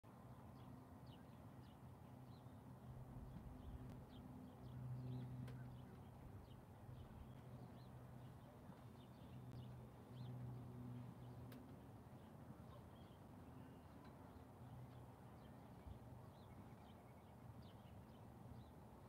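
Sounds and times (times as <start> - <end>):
small birds chirping: 3.2 - 18.8.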